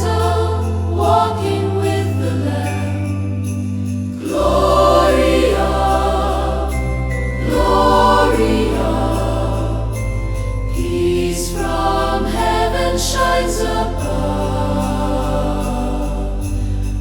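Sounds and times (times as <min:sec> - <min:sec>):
bell-like tinkle: 0:00.0 - 0:17.0
choir holding wordless chords: 0:00.0 - 0:17.0
sustained low bass: 0:00.0 - 0:17.0.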